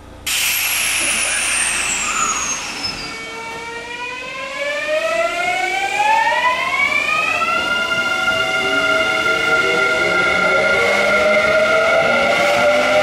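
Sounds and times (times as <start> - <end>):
electric train motor whine: 0.4 - 13.0
high tone sliding down: 1.2 - 13.0.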